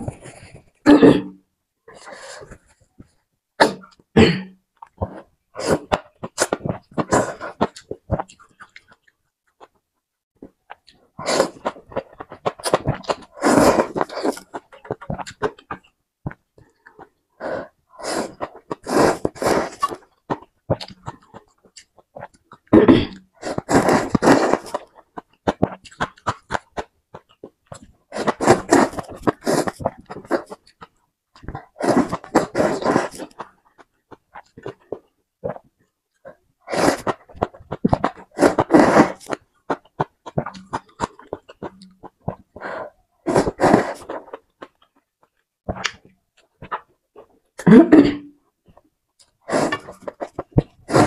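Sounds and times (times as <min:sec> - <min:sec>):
noodles slurped and chewed: 0:04.8 - 0:09.8, 0:10.4 - 0:47.4, 0:48.7 - 0:51.0.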